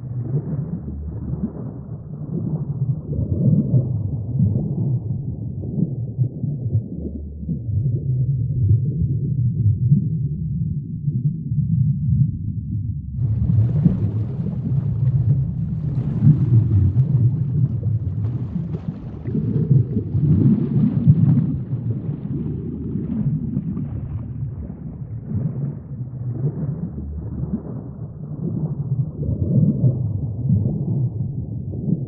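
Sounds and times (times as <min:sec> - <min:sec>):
underwater low rumbling wash: 0:00.0 - 0:32.0.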